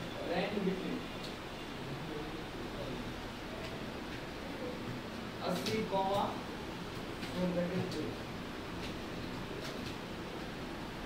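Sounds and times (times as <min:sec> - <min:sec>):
room noise: 0:00.0 - 0:11.0.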